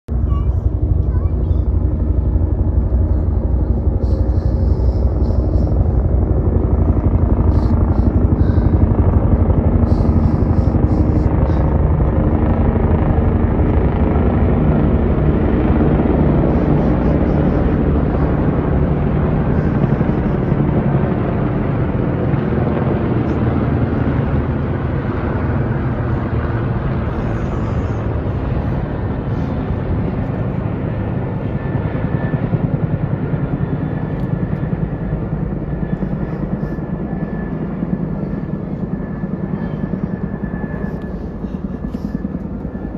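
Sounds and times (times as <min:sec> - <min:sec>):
helicopter rotors beating: 0:00.1 - 0:42.9.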